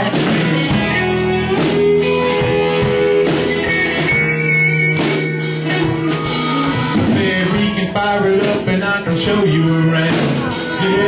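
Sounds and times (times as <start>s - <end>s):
drum kit: 0.0s - 11.0s
guitar: 0.0s - 11.0s
live country band playing: 0.0s - 11.0s.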